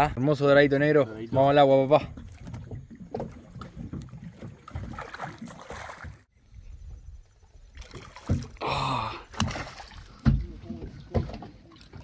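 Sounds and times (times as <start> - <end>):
water splashing: 1.2 - 6.3, 7.2 - 12.0.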